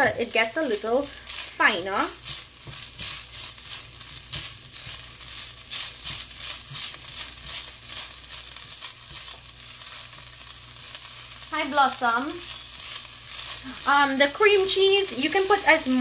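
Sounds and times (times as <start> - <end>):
food sizzling in hot oil: 0.0 - 16.0
spoon stirring against pan: 0.7 - 16.0.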